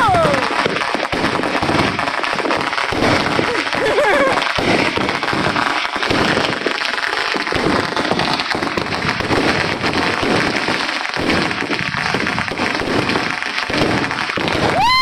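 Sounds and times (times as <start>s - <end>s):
fireworks and firecrackers crackling: 0.0s - 15.0s.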